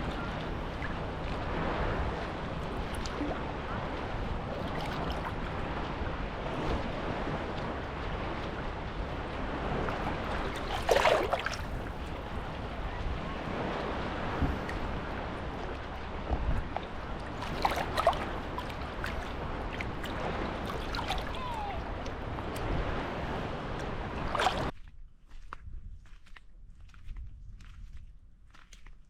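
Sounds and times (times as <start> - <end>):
sea waves washing onto beach: 0.0 - 24.7.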